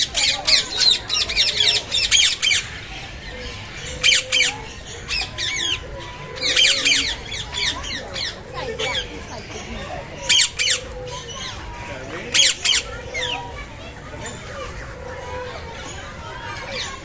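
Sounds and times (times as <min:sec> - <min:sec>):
birds squawking: 0:00.0 - 0:17.0.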